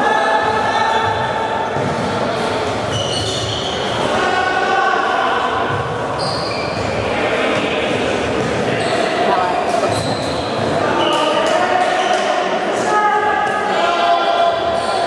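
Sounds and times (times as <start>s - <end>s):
game noise in sports hall: 0.0s - 15.0s.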